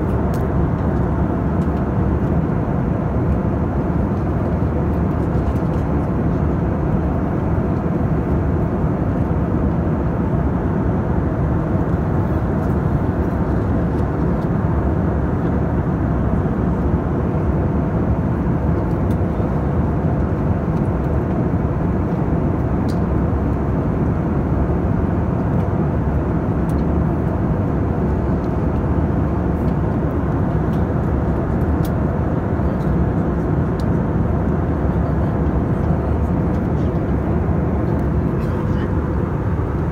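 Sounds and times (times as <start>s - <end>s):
jet engines and airflow rush: 0.0s - 39.9s.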